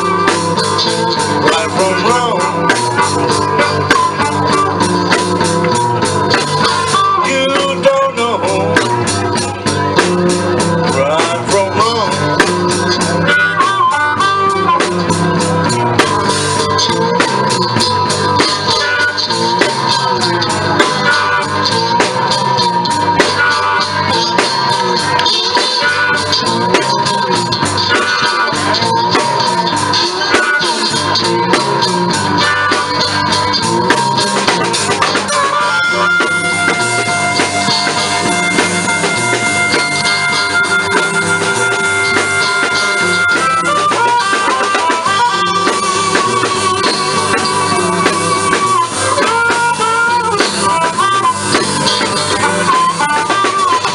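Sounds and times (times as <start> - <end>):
drum rhythm: 0.0 - 53.9
guitar rhythm: 0.0 - 53.9
harmonica wailing: 0.0 - 53.9.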